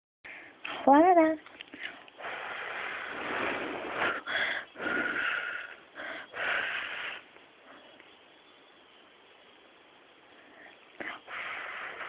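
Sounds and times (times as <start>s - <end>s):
faint hiss: 0.3s - 12.0s.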